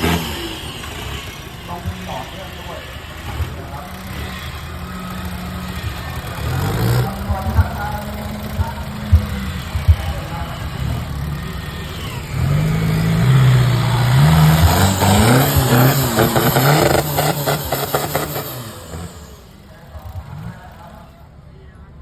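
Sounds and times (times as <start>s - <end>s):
off-road vehicle engine revving: 0.0s - 21.4s.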